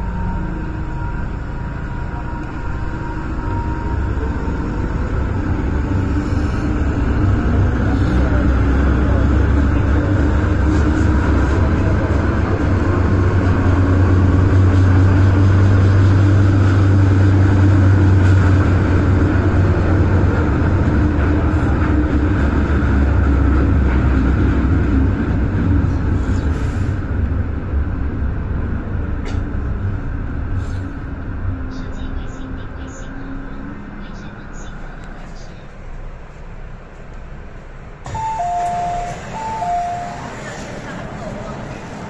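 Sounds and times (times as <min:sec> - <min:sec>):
train rumbling through tunnel: 0:00.0 - 0:42.0.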